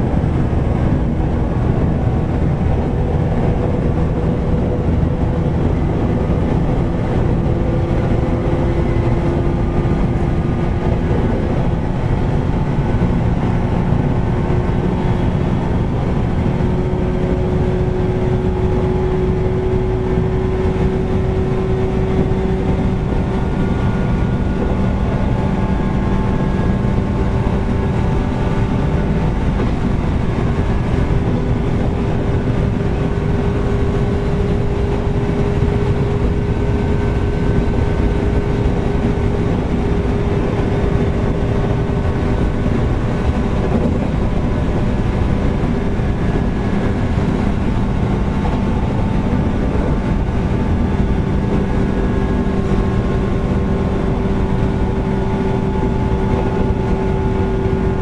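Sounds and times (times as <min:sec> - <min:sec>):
train wheels and motors rumbling: 0:00.0 - 0:58.0.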